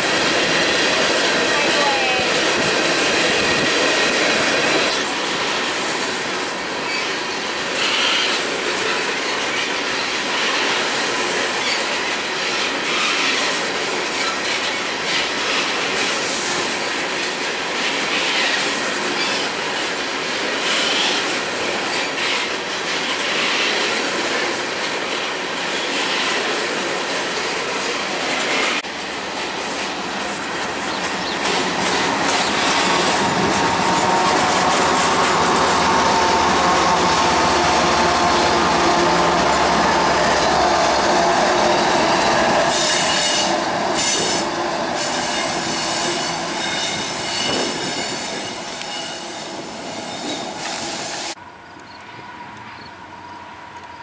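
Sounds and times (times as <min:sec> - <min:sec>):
train wheels clacking on rails: 0:00.0 - 0:52.9.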